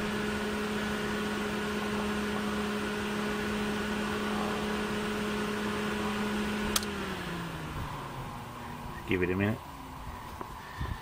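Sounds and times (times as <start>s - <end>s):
diesel engine cranking on starter: 0.0s - 9.6s.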